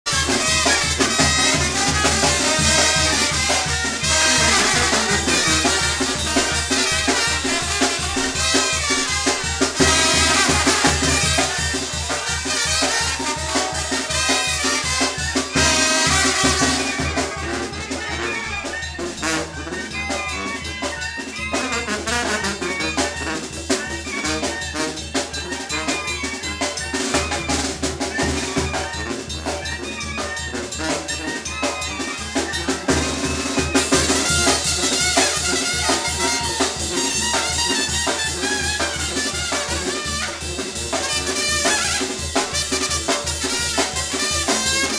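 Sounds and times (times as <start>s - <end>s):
latin dance music with brass: 0.0s - 44.9s.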